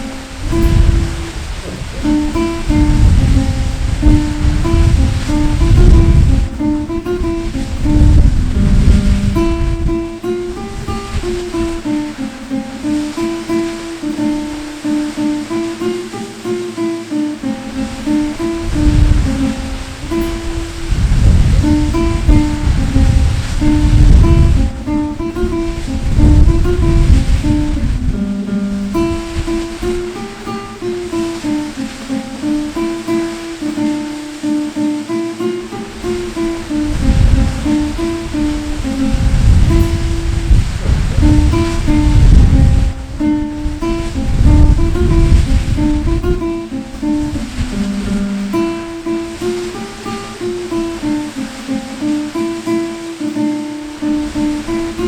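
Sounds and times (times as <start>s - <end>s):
acoustic guitar melody: 0.0s - 55.0s
rushing water hiss: 0.0s - 55.0s.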